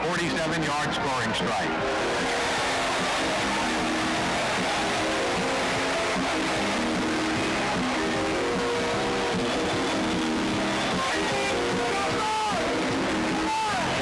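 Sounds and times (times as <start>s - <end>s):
background music with held chords: 1.7s - 14.0s.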